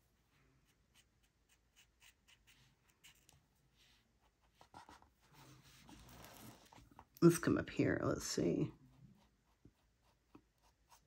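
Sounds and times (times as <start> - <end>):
rubbing and scratching on paper: 0.0 - 7.1, 8.7 - 11.0.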